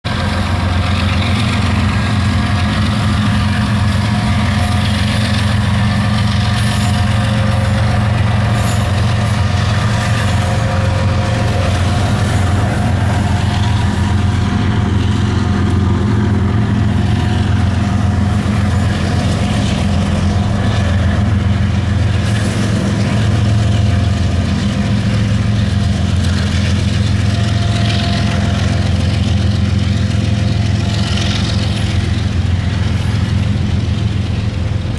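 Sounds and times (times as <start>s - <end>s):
diesel locomotive engine drone: 0.0s - 34.9s.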